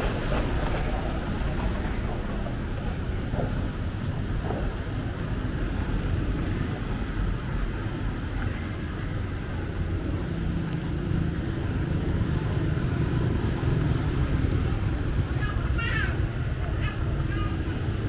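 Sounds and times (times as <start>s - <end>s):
low rumble of passing vehicles: 0.0s - 18.0s.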